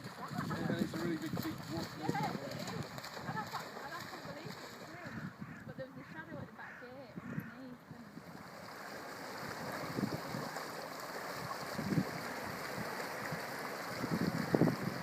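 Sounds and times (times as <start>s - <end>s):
dogs splashing through water: 0.0s - 5.6s, 8.1s - 15.0s
wind on microphone: 0.0s - 8.6s, 9.3s - 15.0s.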